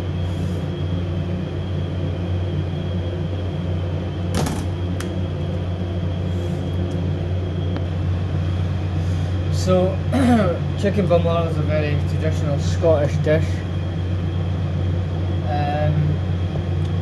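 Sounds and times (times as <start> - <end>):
ventilation fans humming: 0.0 - 17.0.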